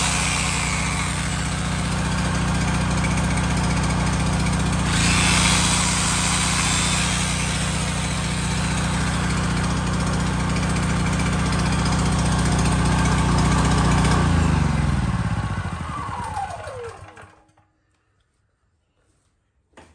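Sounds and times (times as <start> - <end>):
generator engine running: 0.0 - 17.5.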